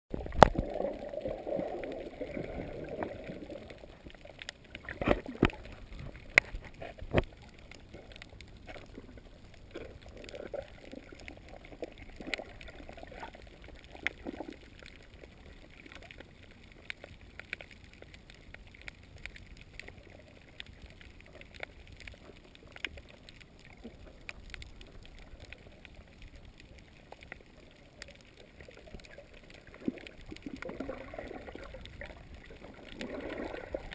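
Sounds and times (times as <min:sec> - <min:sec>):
low steady hiss: 0:00.1 - 0:33.9
water gurgling underwater: 0:00.1 - 0:33.9.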